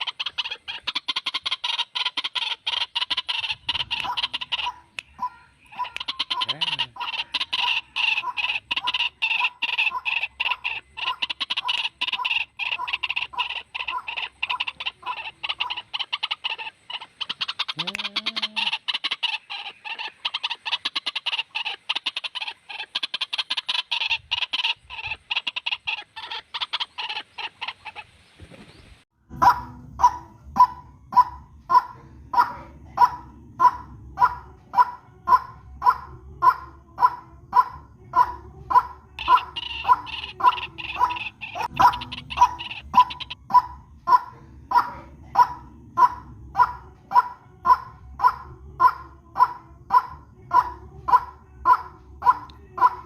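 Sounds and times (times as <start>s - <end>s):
waterhens calling: 0.0s - 53.0s.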